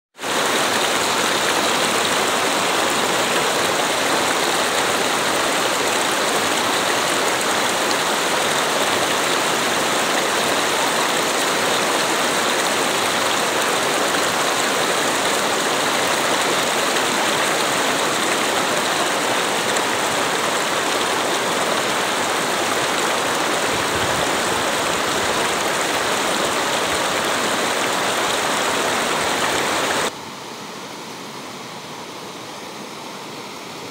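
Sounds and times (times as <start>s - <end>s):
stream running over rocks: 0.2s - 33.9s.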